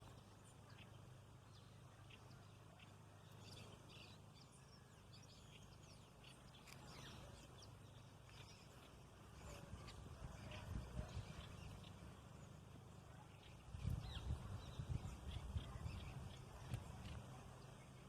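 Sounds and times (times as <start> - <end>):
faint bird chirps: 0.0 - 18.0
low steady hum: 0.0 - 18.0.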